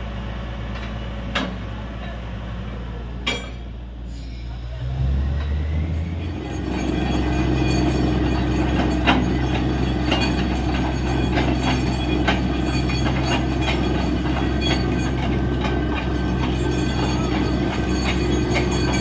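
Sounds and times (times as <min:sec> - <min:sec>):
engine and compressor drone: 0:00.0 - 0:19.0.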